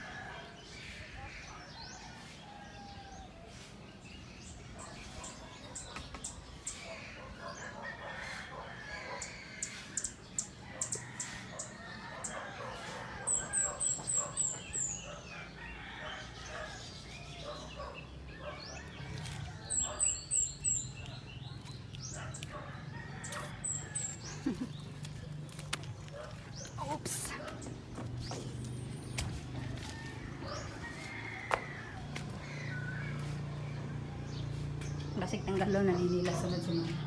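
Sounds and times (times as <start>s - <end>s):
chickens calling: 4.8s - 37.0s.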